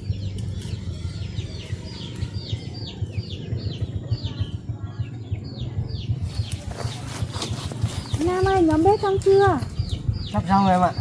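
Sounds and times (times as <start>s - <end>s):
birds chirping: 0.0s - 11.0s
steady low rumble: 0.0s - 11.0s.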